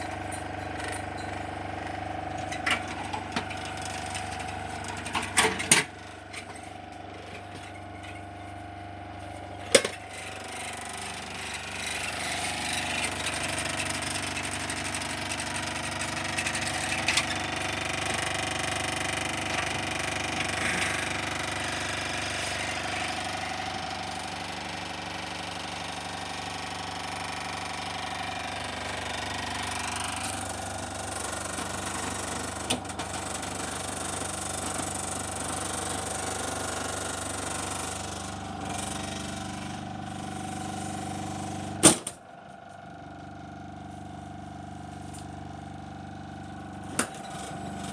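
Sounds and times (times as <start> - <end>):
refrigerator compressor humming: 0.0 - 47.9.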